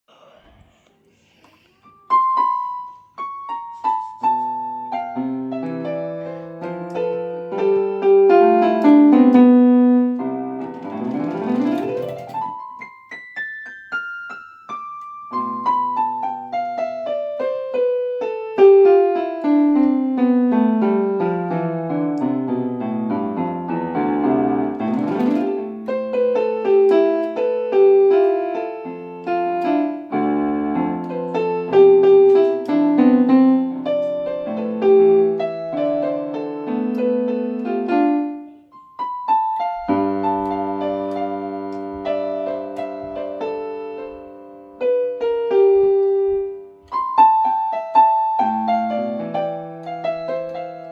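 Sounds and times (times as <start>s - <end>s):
piano keyboard playing: 1.8s - 50.9s.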